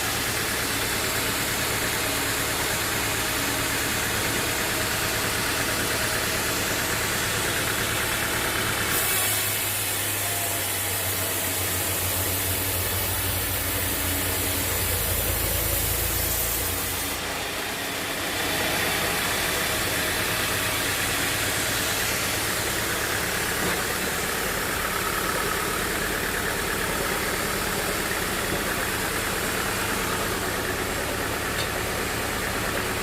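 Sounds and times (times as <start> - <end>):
sawmill machine noise: 0.0 - 33.0.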